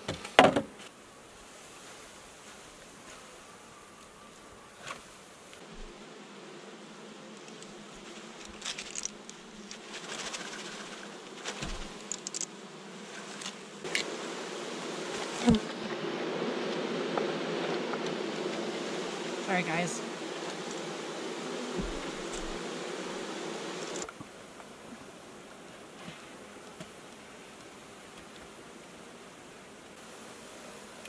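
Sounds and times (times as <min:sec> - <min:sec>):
honey bees buzzing: 0:00.0 - 0:31.0.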